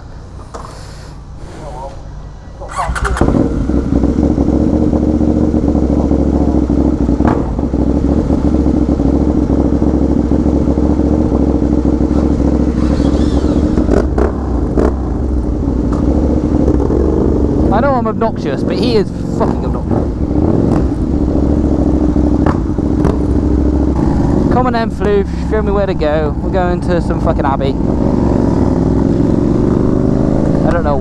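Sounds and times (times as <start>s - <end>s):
motorcycle engine starting and idling: 2.2s - 31.0s.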